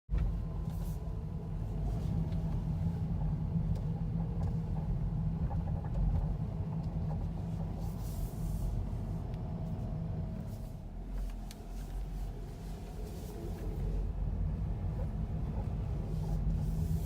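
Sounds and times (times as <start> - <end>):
moving car rumble: 0.1 - 17.0.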